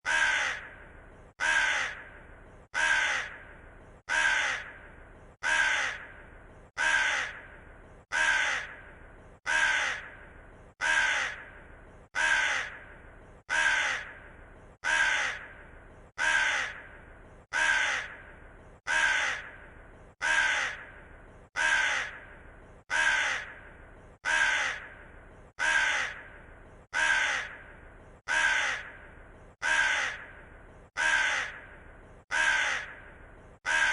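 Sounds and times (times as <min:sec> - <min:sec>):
raven cawing: 0:00.0 - 0:33.9.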